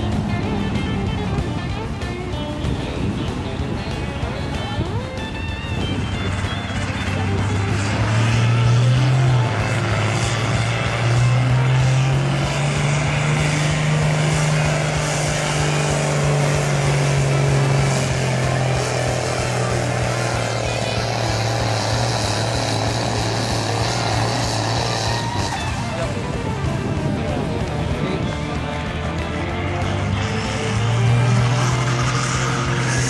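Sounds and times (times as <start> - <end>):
tractor engine pulling under load: 0.0 - 33.0.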